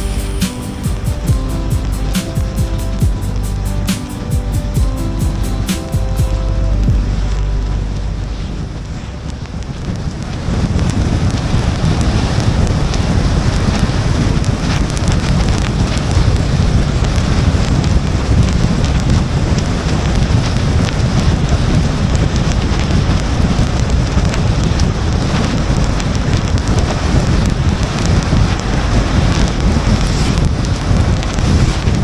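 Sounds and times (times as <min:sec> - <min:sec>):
road and wind rumble: 0:04.5 - 0:32.0.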